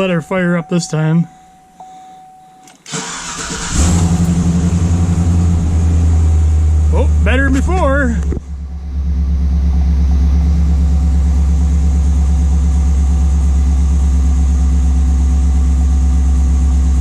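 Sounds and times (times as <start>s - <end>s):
car engine idling: 2.9s - 17.0s.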